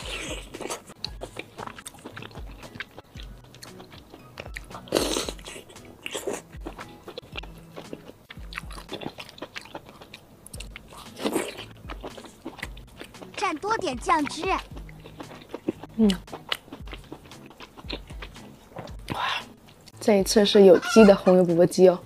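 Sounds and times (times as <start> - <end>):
wet chewing mouth clicks: 0.0 - 19.9.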